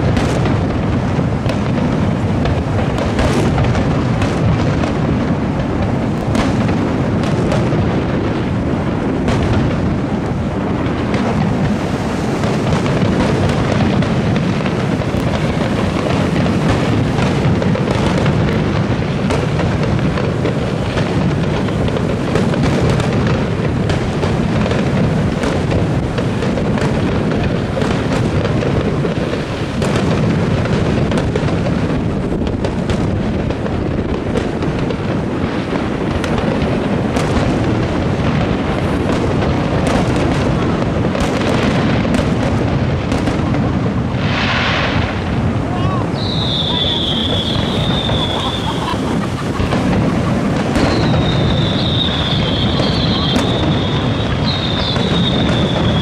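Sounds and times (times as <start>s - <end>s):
firework crackle: 0.0s - 56.0s
fireworks booming: 0.0s - 56.0s.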